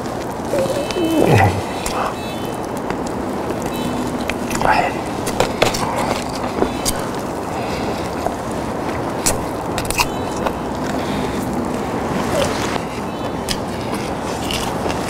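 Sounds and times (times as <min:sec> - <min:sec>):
crispy chicken chewing and crunching: 0:00.0 - 0:15.0
outdoor background noise: 0:00.0 - 0:15.0.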